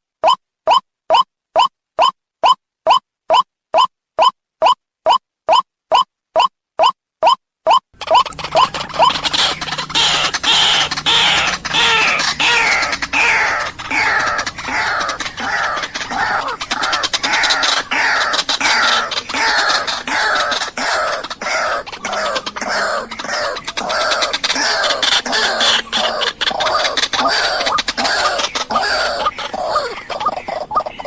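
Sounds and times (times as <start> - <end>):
waterhen calling: 0.2 - 31.0.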